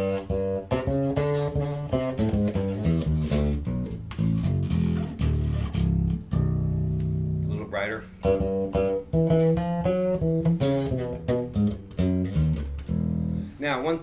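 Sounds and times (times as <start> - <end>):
electric bass plucked notes: 0.0 - 14.0.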